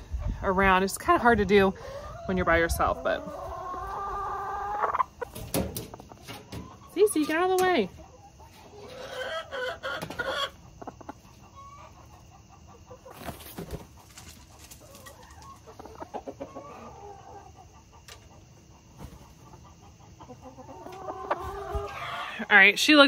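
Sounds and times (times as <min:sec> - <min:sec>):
hens clucking softly: 0:01.5 - 0:22.6.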